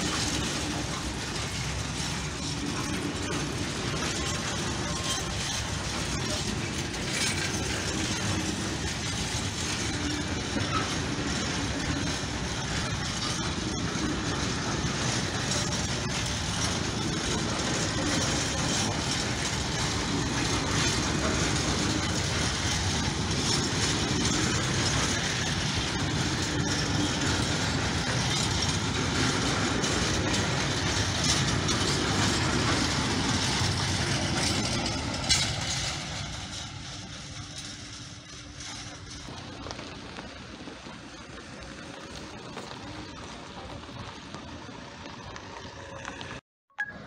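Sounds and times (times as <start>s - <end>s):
freight train wheels clattering: 0.0s - 46.4s.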